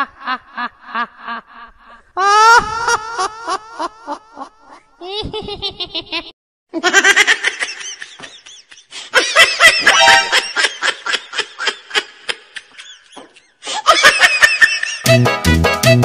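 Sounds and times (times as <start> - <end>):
high-pitched laughter and giggling: 0.0 - 15.2.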